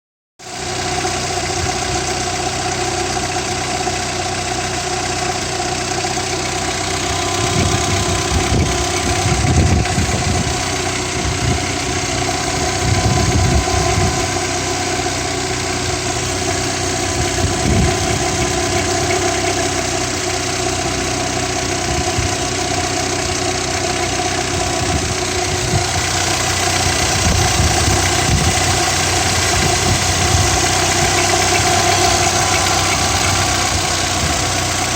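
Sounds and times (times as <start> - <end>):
car engine idling: 0.4 - 34.9
engine knocking: 0.4 - 34.9.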